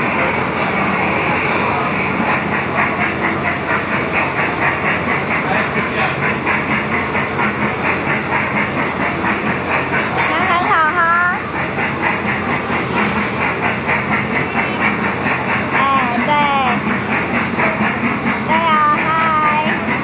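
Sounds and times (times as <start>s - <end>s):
kiddie ride train chuffing: 0.0s - 20.0s.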